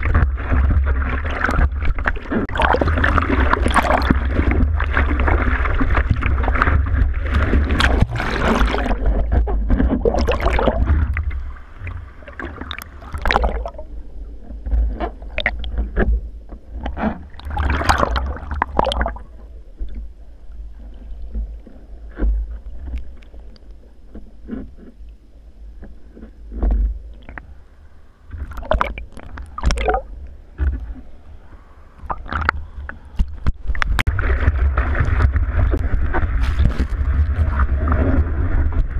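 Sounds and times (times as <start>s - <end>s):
seawater sloshing and splashing: 0.0s - 23.6s, 28.3s - 38.9s
low rumble: 0.0s - 38.9s.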